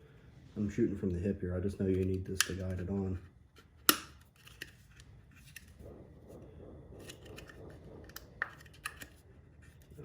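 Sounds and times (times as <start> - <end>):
handling noise of parts and tools: 1.8 - 10.0.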